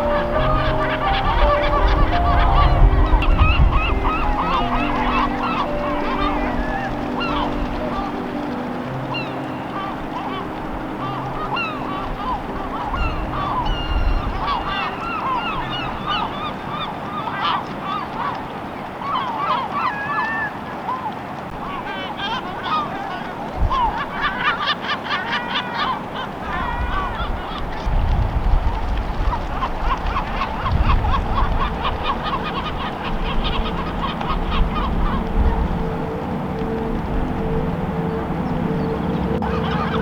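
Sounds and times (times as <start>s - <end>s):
flock of birds calling: 0.0s - 40.0s.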